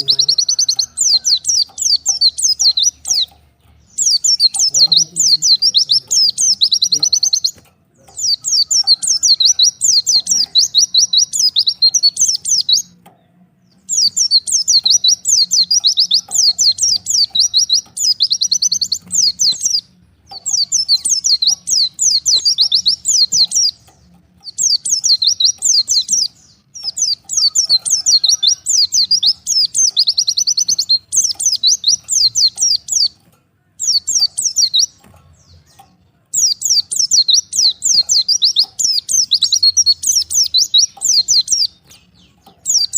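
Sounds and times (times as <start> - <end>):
bird twittering high chirps: 0.0 - 42.9.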